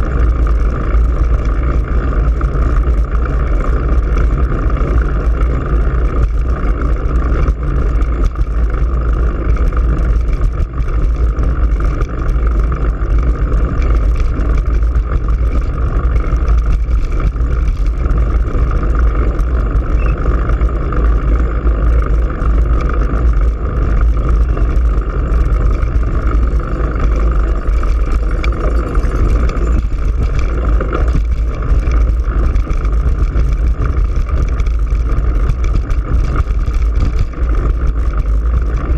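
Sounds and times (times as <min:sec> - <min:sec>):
bicycle tyres rolling on road: 0:00.0 - 0:38.9
wind rush on microphone: 0:00.0 - 0:38.9.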